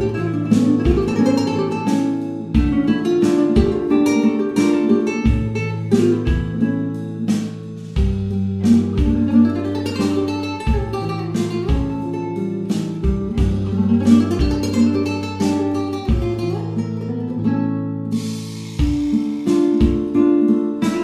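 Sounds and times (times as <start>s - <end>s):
percussion with low thumps: 0.0s - 17.0s, 18.4s - 21.0s
flamenco acoustic guitar: 0.0s - 21.0s.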